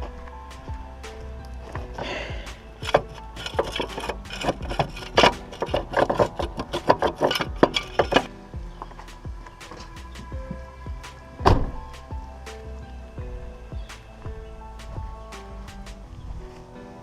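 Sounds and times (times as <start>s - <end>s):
scraping: 0.0s - 17.0s.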